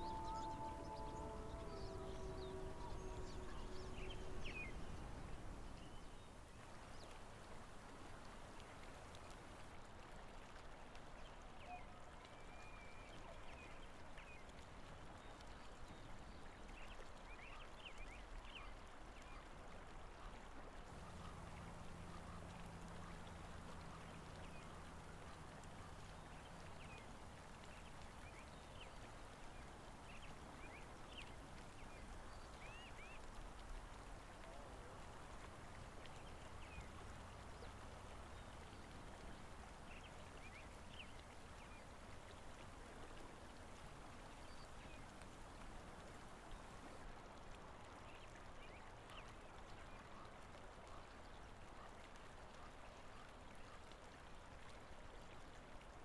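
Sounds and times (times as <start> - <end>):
low outdoor hiss: 0.0 - 56.0.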